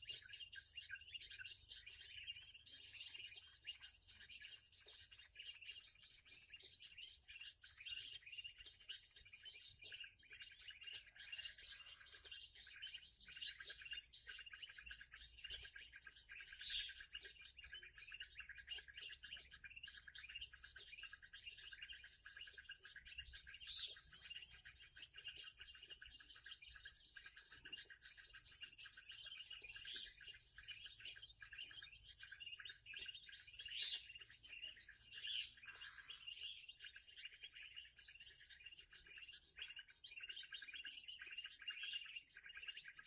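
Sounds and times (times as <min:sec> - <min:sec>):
loud bird calls: 0:00.0 - 0:43.0
small birds chirping and twittering: 0:00.0 - 0:43.0.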